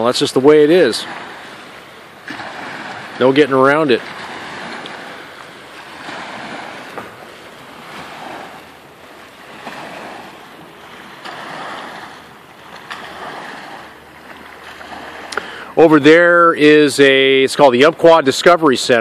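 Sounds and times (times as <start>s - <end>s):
small waves washing on concrete: 0.0s - 19.0s.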